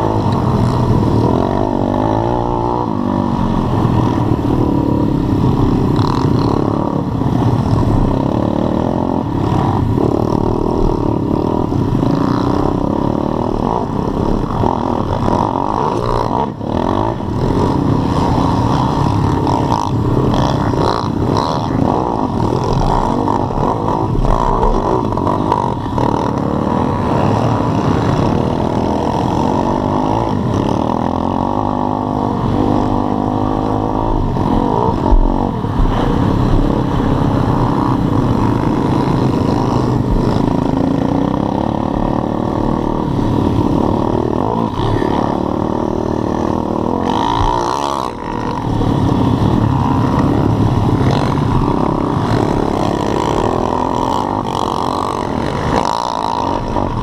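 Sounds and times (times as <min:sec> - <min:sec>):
small motorcycle engine revving: 0:00.0 - 0:57.0.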